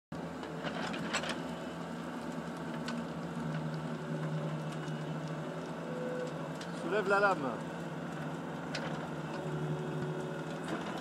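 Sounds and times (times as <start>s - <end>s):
excavator diesel engine running: 0.2s - 11.0s.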